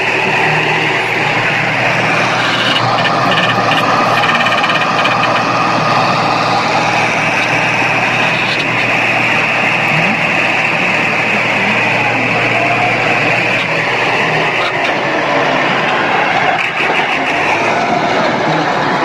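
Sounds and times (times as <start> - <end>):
high whine: 0.0 - 19.0
vehicle engine running: 0.0 - 19.0.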